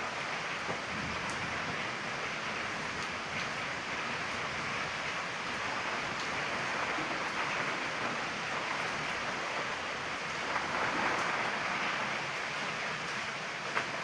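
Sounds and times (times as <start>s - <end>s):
heavy rain pattering: 0.0s - 14.0s.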